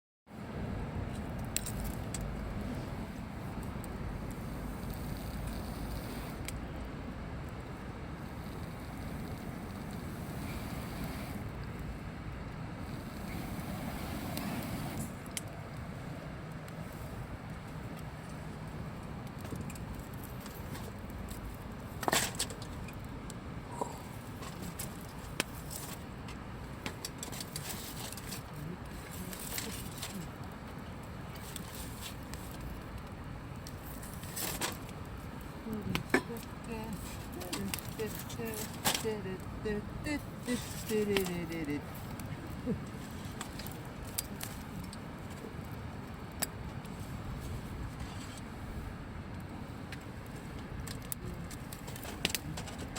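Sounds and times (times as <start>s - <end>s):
low outdoor rumble: 0.3s - 52.9s
campfire crackles and pops: 0.7s - 52.9s.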